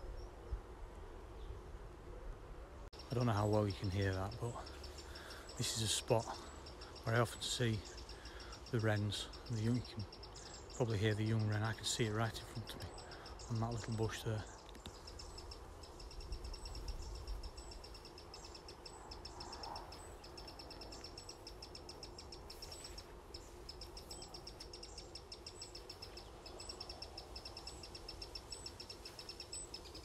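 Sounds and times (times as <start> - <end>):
wren ticking calls: 3.0 - 30.0.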